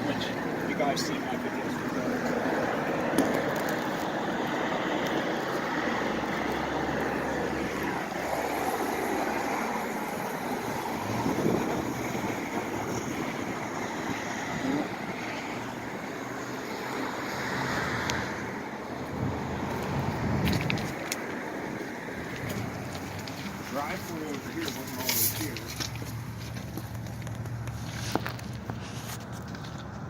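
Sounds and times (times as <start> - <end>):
vehicle passing by: 0.0 - 29.6
road traffic noise: 0.0 - 30.0.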